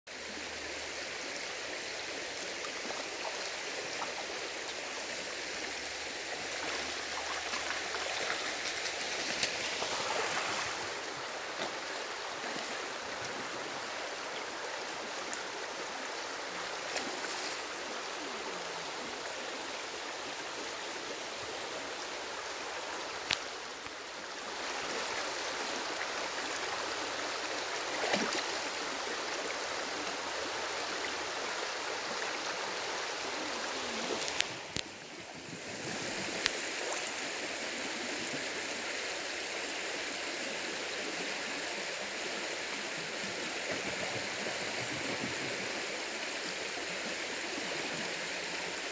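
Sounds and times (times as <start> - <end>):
creek flowing over gravel: 0.1 - 48.9.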